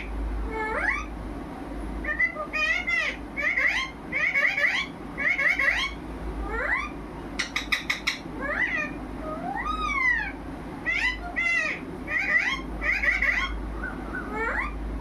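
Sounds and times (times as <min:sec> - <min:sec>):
parrot cries: 0:00.0 - 0:01.1, 0:02.0 - 0:14.8
parrot rising and falling call: 0:02.0 - 0:14.8.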